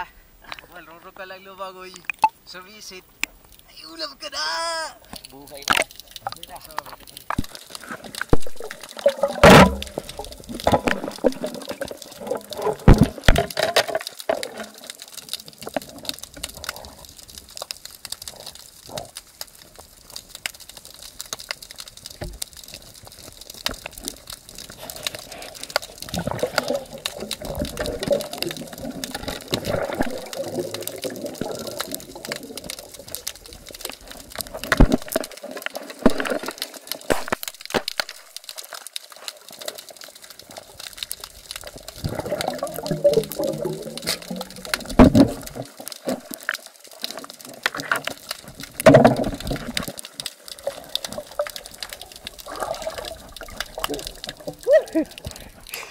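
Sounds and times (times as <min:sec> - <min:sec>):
muffled underwater water noise: 0:00.0 - 0:55.9.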